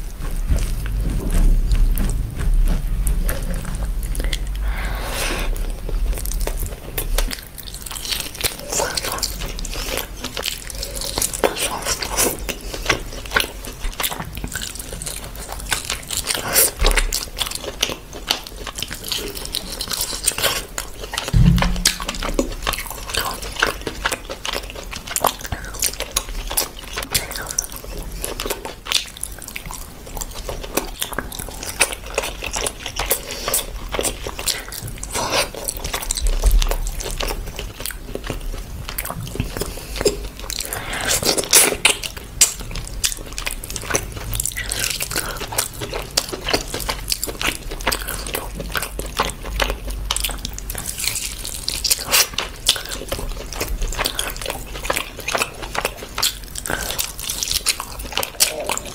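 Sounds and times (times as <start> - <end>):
person chewing: 0.0 - 58.9.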